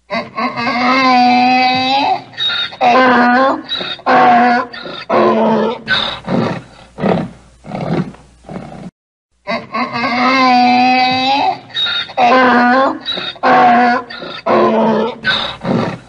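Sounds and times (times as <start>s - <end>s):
donkey braying: 0.1s - 8.9s, 9.5s - 16.0s.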